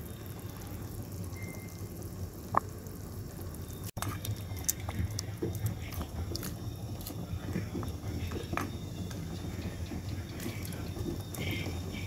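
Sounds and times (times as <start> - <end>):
soup simmering with bubbling pops: 0.0 - 12.0.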